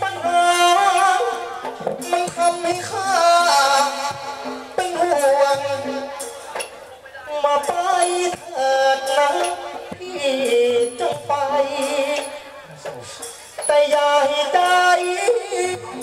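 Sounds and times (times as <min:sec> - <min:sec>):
person singing ornamented melody: 0:00.0 - 0:06.5, 0:07.2 - 0:16.0
percussion strikes: 0:00.0 - 0:16.0.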